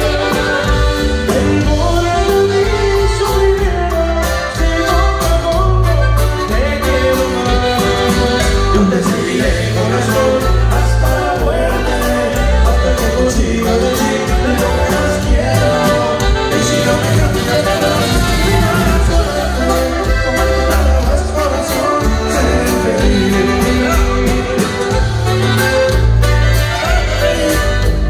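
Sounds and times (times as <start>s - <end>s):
person singing: 0.0s - 25.2s
live band playing: 0.0s - 28.0s.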